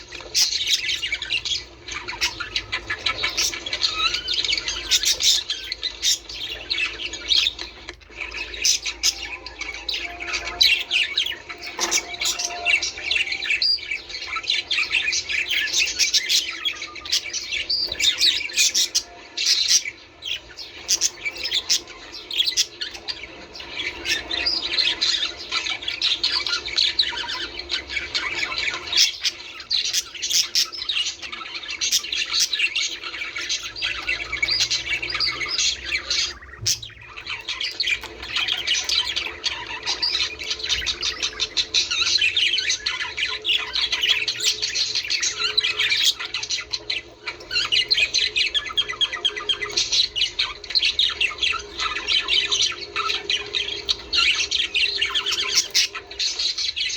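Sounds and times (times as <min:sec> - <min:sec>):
budgerigars chattering: 0:00.0 - 0:56.9.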